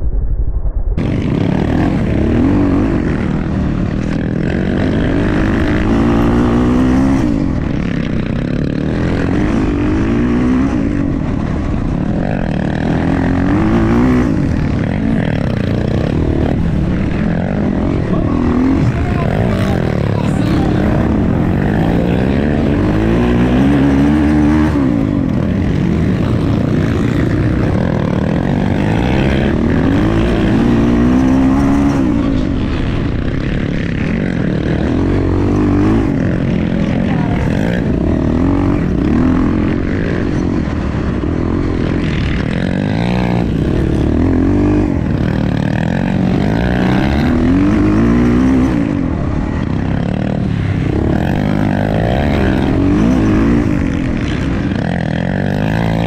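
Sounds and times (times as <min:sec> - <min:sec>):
dirt bike engine revving: 0:01.0 - 0:56.0.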